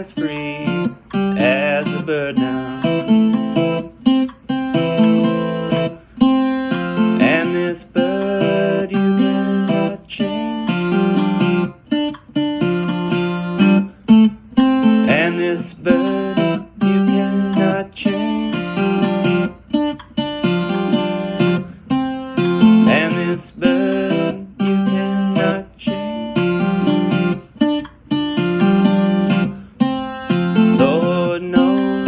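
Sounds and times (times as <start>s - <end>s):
acoustic guitar melody: 0.0s - 32.0s.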